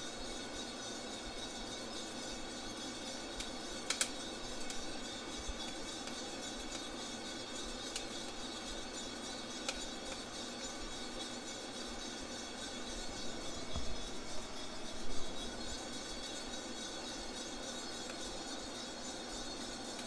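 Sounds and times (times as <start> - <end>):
coffee roaster running: 0.0 - 20.0.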